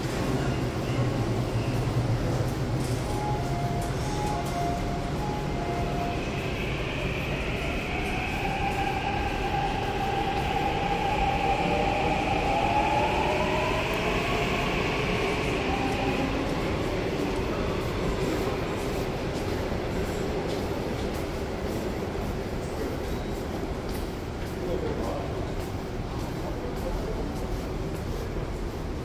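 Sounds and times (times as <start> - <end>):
subway train rumble: 0.0 - 29.0.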